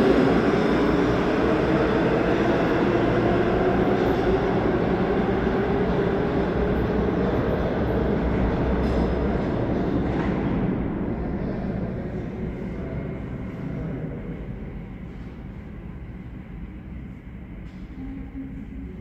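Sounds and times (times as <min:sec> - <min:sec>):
subway train wheels rumbling on rail: 0:00.0 - 0:19.0.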